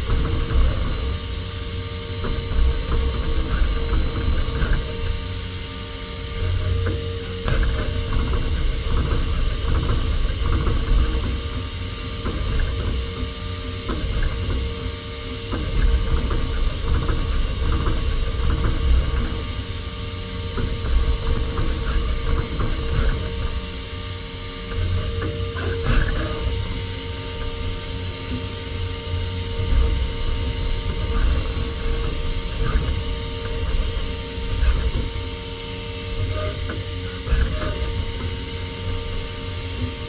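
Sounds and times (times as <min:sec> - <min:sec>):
milling machine whine: 0:00.0 - 0:40.0.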